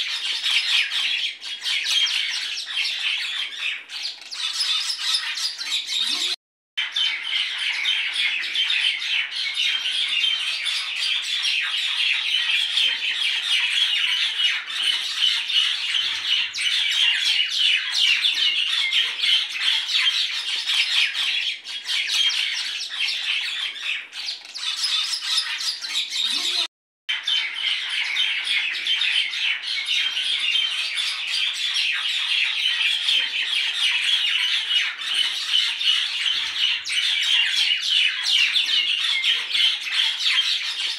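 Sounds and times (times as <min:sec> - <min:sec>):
small birds chattering and squawking: 0:00.0 - 0:40.9.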